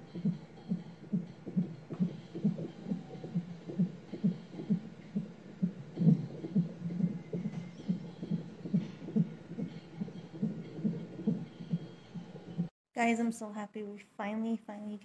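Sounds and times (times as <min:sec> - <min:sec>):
doppler fetal heartbeat pulse: 0:00.0 - 0:12.7.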